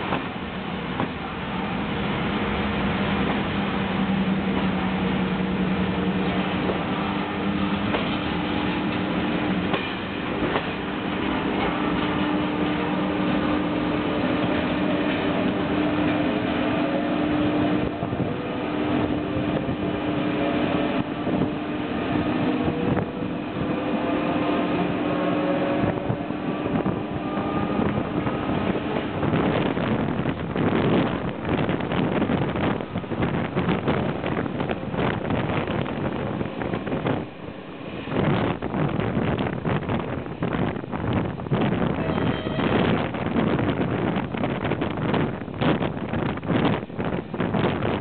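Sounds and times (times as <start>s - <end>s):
train motor hum and whine: 0.0s - 48.0s
wind buffeting microphone: 0.0s - 48.0s.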